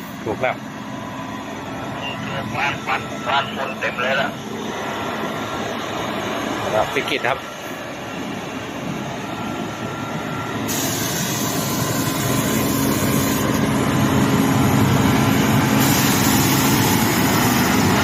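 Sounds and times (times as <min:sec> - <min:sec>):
diesel truck engine under load: 0:00.0 - 0:18.0.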